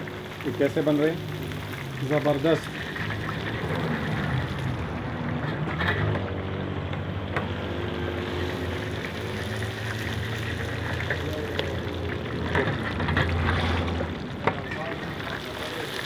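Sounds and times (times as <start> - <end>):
fish deep-frying in oil: 0.0 - 16.0.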